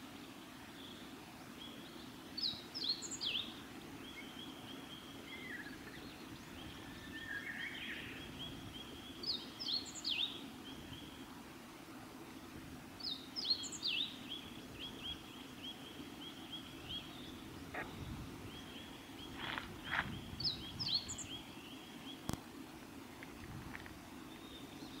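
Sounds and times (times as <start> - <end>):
bird singing: 0.1 - 11.3, 13.0 - 22.4, 23.3 - 25.0
steady low hum: 3.4 - 25.0.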